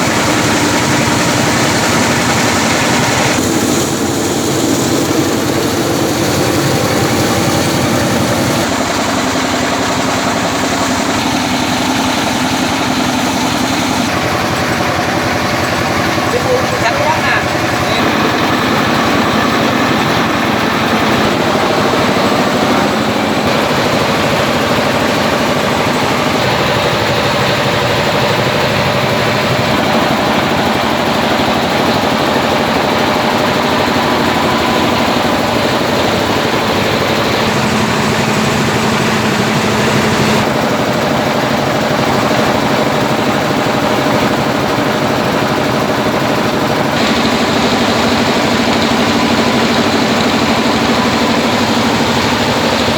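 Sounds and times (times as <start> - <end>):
rice milling machine running: 0.0 - 52.9.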